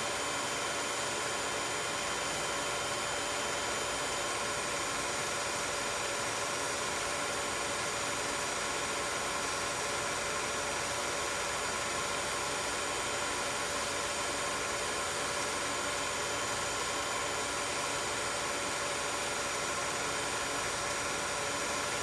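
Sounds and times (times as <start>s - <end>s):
film projector running: 0.0s - 22.0s.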